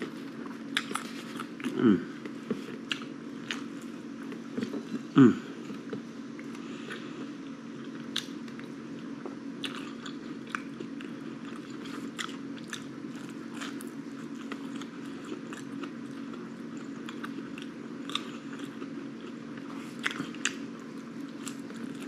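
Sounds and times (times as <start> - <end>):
person chewing with wet clicks: 0.0 - 4.8, 5.7 - 22.0
steady low hum: 0.0 - 22.0.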